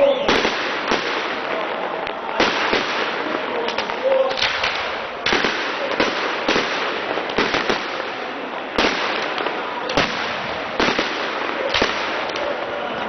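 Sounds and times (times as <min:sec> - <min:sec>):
fireworks hissing crackle: 0:00.0 - 0:13.0
fireworks sharp bangs: 0:00.0 - 0:13.0.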